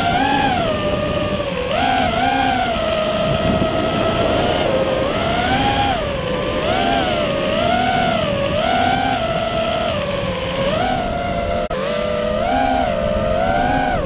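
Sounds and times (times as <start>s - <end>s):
wind rushing: 0.0s - 11.7s
drone motors whining: 0.0s - 14.0s.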